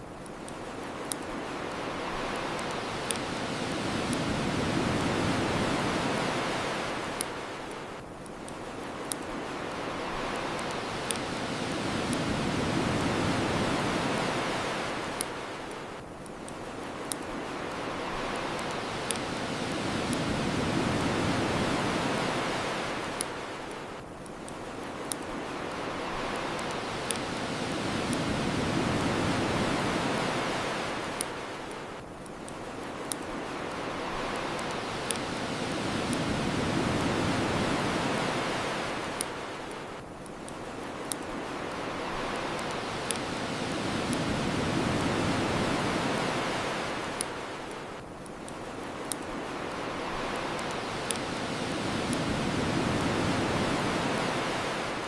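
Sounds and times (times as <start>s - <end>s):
bonfire crackling: 0.0s - 55.0s
ocean waves washing ashore: 0.0s - 55.0s.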